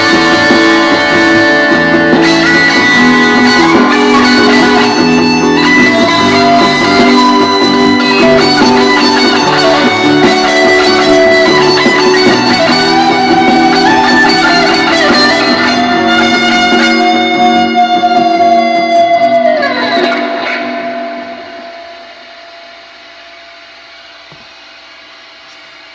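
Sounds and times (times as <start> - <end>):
electric guitar sustained notes: 0.0 - 25.9.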